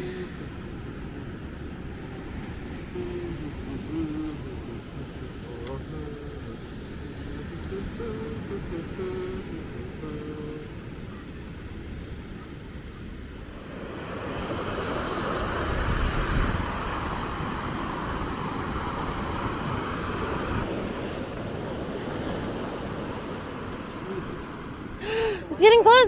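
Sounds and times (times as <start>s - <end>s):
ocean surf breaking on beach: 0.0s - 26.0s
wind rumbling on microphone: 0.0s - 26.0s.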